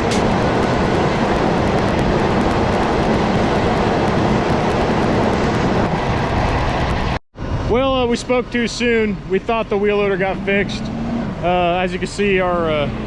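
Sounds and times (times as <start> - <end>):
machine engine rumbling: 0.0 - 13.0.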